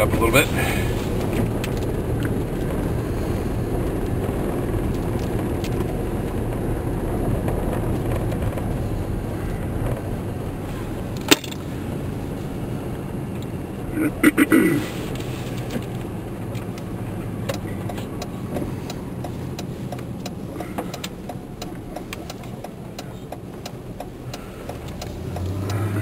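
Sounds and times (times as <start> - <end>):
engine and tyres rumbling: 0.0 - 26.0.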